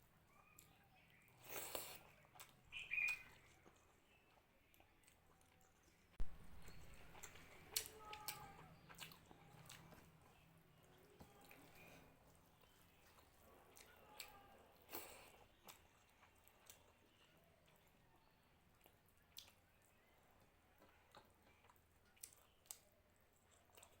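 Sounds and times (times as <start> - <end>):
chewing and mouth clicks: 0.4 - 18.0, 18.6 - 24.0.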